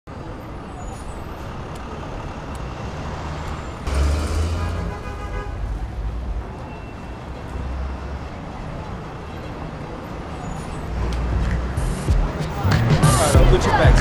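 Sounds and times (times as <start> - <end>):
traffic rumble: 0.1 - 14.0
truck driving past: 0.8 - 14.0.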